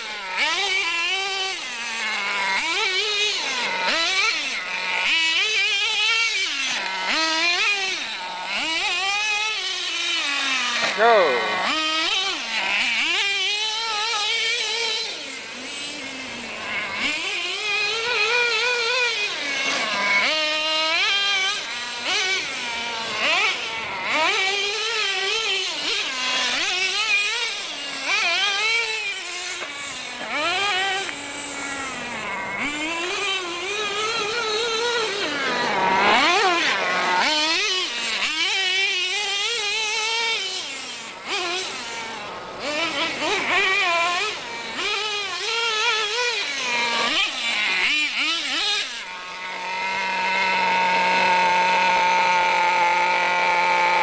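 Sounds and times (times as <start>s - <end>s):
small nitro engine revving: 0.0s - 54.0s.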